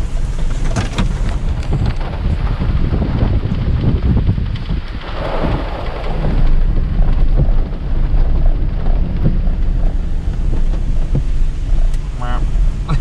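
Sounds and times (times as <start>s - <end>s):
truck driving rumble: 0.0s - 13.0s
wind buffeting microphone: 0.0s - 13.0s.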